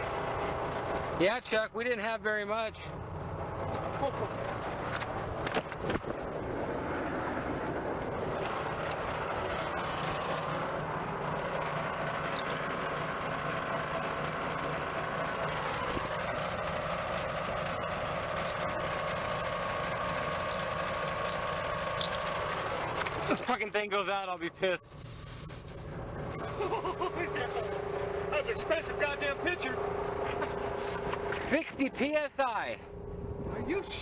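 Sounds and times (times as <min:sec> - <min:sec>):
road noise: 0:00.0 - 0:34.0
van engine hum: 0:00.0 - 0:34.0.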